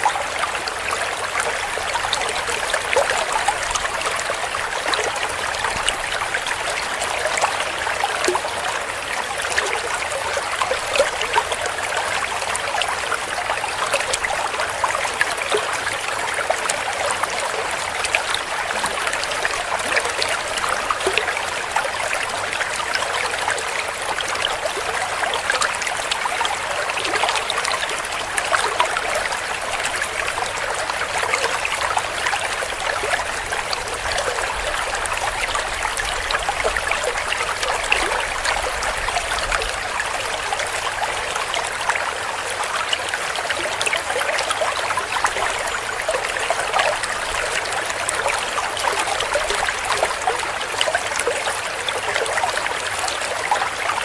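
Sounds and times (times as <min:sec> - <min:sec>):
stream gurgling over rocks: 0:00.0 - 0:54.0.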